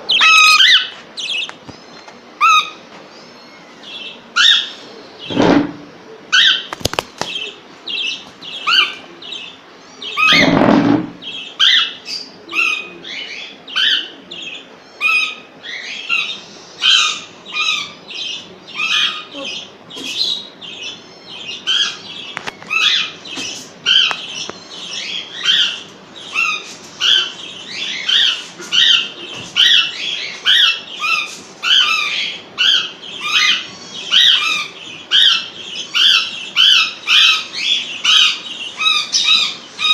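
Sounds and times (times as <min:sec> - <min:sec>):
parrot chicks begging calls: 0:00.0 - 0:39.9.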